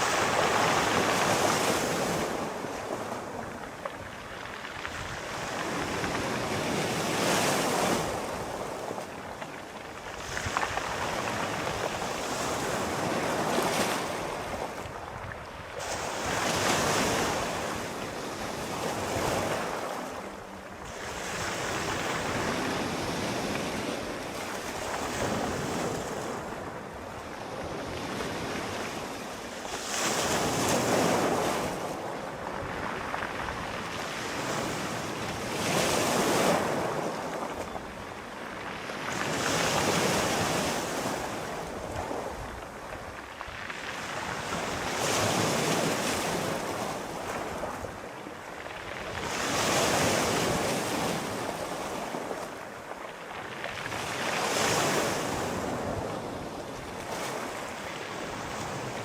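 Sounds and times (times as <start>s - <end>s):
sea waves breaking on shore: 0.0s - 59.0s
wind: 0.0s - 59.0s.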